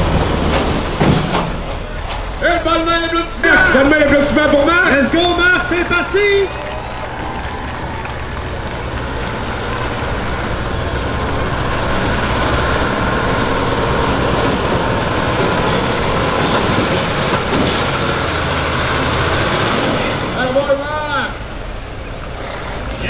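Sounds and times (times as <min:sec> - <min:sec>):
diesel truck engine at full throttle: 0:00.0 - 0:23.0.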